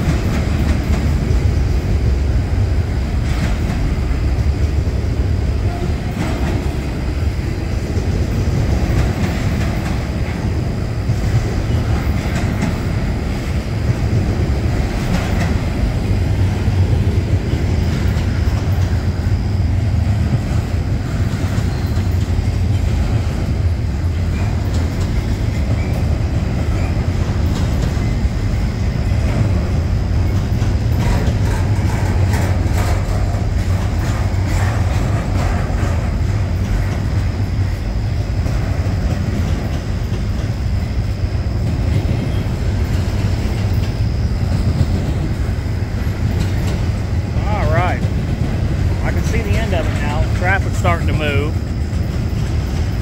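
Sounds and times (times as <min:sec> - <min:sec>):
train wheel clicks: 0:00.0 - 0:02.0, 0:02.9 - 0:05.0, 0:05.7 - 0:19.4, 0:20.0 - 0:53.0
freight train rumbling on rails: 0:00.0 - 0:53.0.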